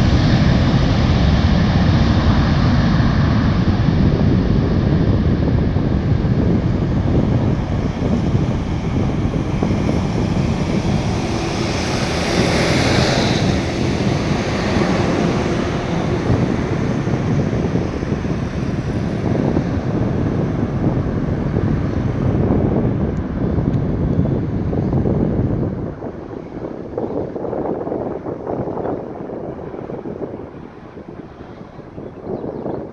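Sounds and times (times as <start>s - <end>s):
jet engines roaring at takeoff: 0.0s - 32.9s
wind buffeting microphone: 0.0s - 32.9s.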